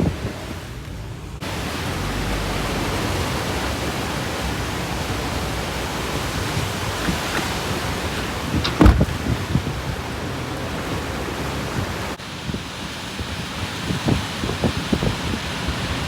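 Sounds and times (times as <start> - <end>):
hurricane wind rushing: 0.0 - 16.0.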